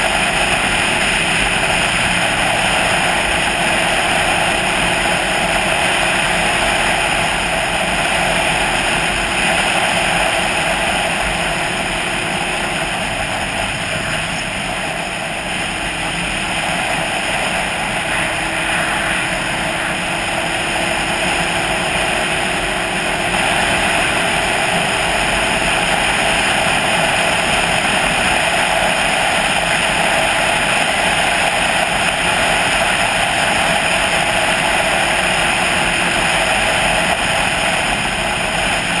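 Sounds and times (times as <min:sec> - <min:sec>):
faint engine drone: 0:00.0 - 0:39.0
wind and road noise: 0:00.0 - 0:39.0.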